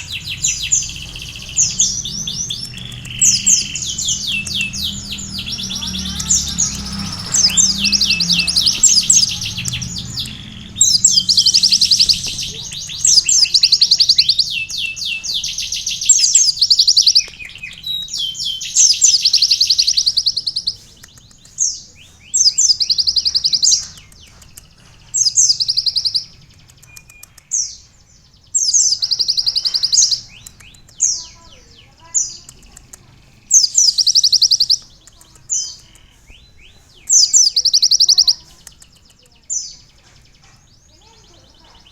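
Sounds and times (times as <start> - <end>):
sunbird singing high trills: 0.0 - 41.9.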